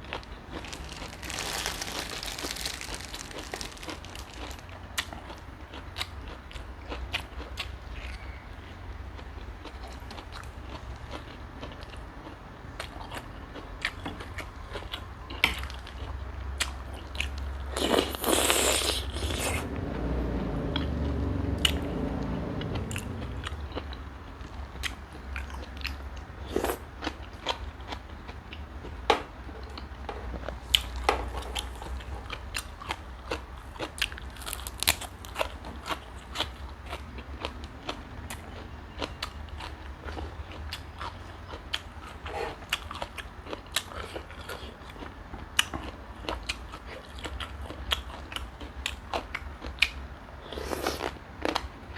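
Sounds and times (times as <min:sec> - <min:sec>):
person chewing with crunches: 0:00.0 - 0:08.8, 0:09.4 - 0:51.7.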